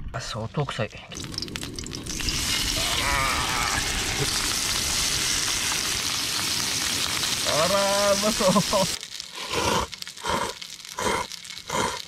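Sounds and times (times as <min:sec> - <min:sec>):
fish sizzling in frying pan: 0:01.2 - 0:11.6.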